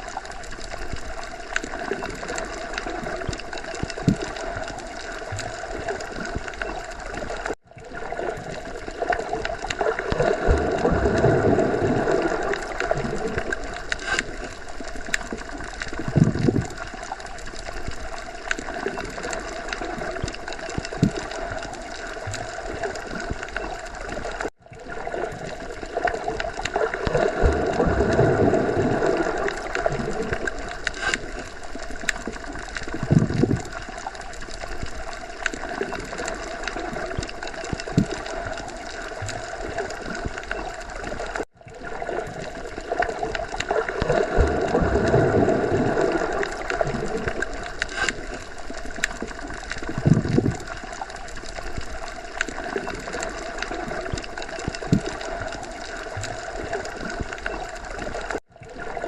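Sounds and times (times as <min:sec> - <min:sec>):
low gurgling: 0:00.0 - 0:59.0
muffled underwater water wash: 0:00.0 - 0:59.0.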